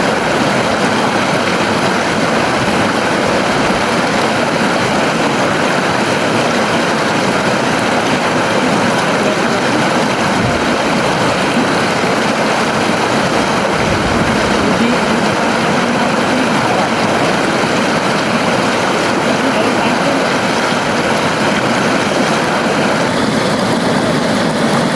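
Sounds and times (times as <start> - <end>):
river flowing: 0.0 - 24.9.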